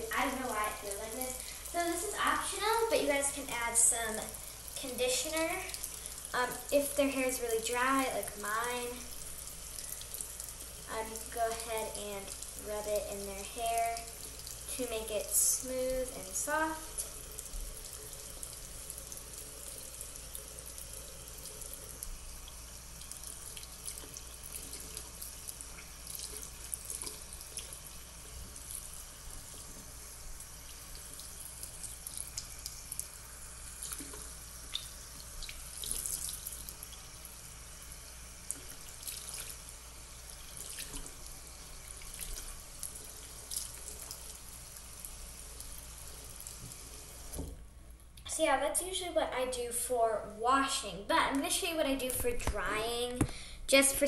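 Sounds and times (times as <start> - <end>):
water splashes: 0.0 - 37.2, 38.4 - 47.4
faucet running into sink: 0.1 - 47.6.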